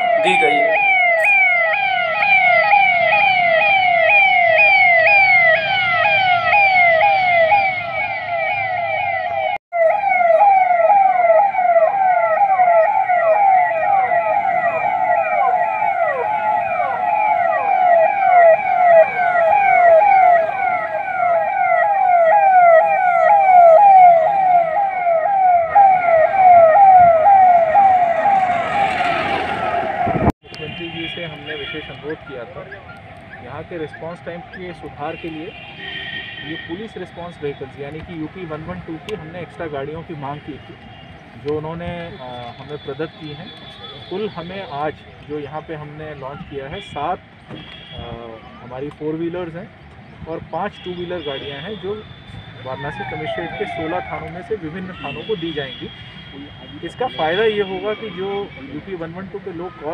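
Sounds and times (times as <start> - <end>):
police siren yelping: 0.0 - 30.3, 30.9 - 41.2, 51.0 - 59.9.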